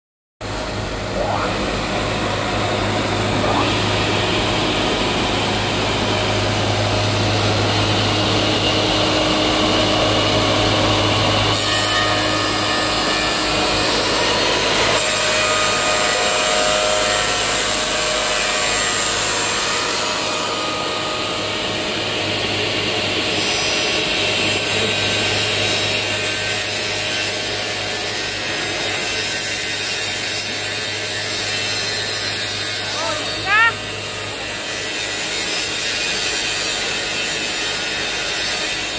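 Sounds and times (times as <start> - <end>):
planer moulder machine running: 0.5 - 38.9.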